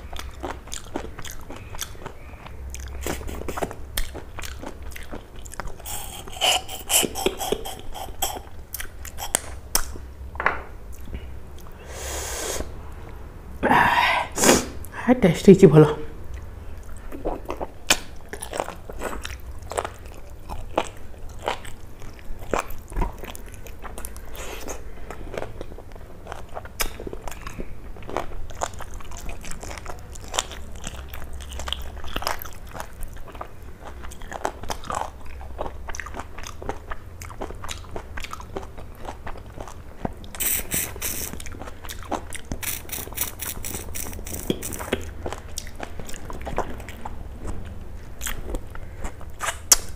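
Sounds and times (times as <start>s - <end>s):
biting and chewing meat: 0.0s - 10.0s, 17.0s - 49.9s.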